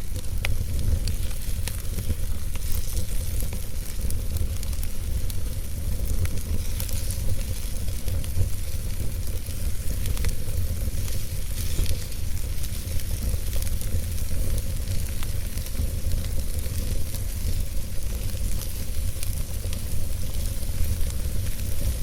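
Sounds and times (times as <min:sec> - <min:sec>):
crackling and popping logs: 0:00.0 - 0:22.0
low rumble of flames: 0:00.0 - 0:22.0.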